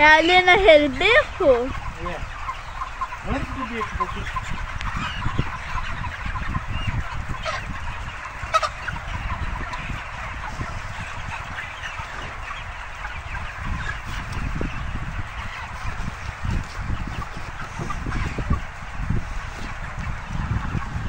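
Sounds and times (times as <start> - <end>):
chickens clucking and chirping: 0.0 - 21.0.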